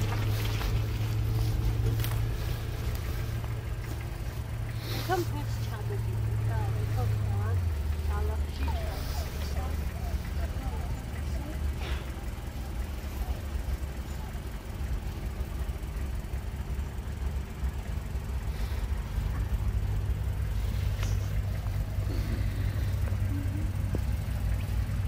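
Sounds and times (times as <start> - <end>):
car engine running under throttle: 0.0 - 25.0.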